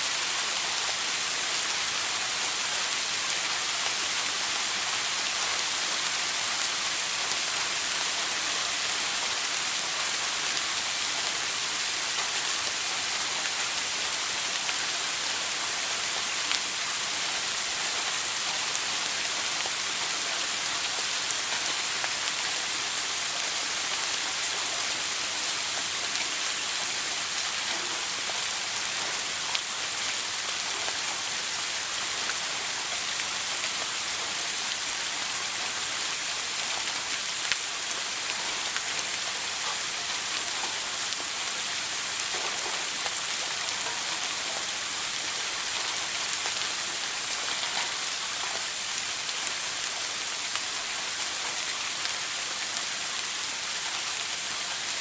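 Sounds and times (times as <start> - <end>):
faint drip-like ticks: 0.0 - 55.0.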